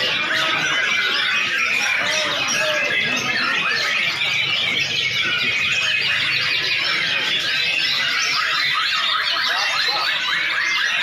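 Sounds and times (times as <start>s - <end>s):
many birds singing: 0.0s - 11.0s.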